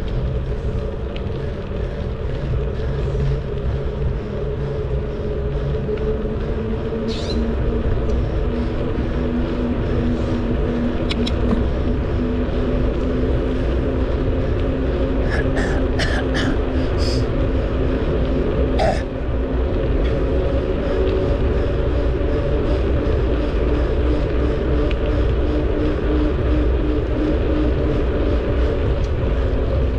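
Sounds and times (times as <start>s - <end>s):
steady hum: 0.0s - 29.9s
wind rumbling on microphone: 0.0s - 29.9s.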